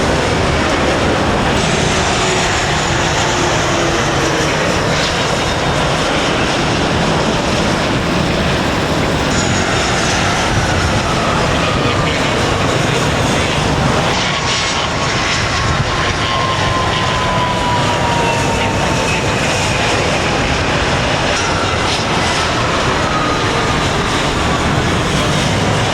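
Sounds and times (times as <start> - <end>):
jet airliner engines: 0.0 - 25.9.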